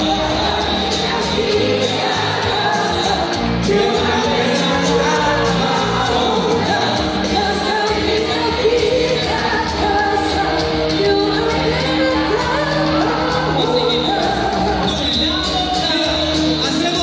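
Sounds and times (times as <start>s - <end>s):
lead singer singing: 0.0s - 17.0s
live band playing pop music: 0.0s - 17.0s.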